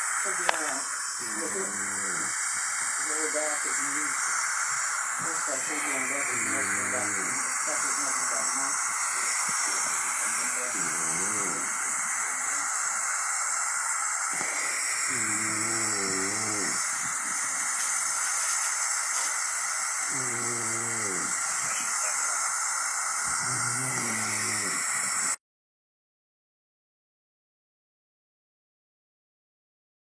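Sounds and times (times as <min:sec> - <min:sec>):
loud steady hiss: 0:00.0 - 0:25.4.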